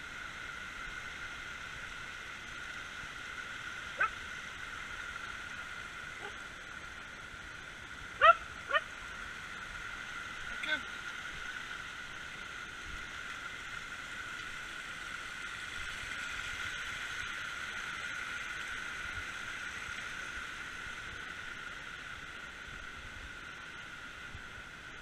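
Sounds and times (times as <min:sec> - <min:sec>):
stream water rushing over rocks: 0:00.0 - 0:25.0.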